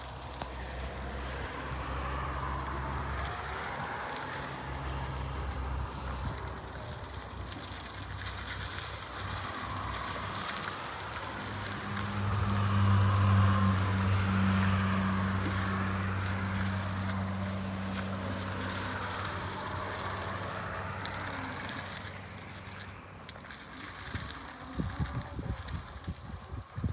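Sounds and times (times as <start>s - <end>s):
forklift engine humming: 0.0s - 26.9s.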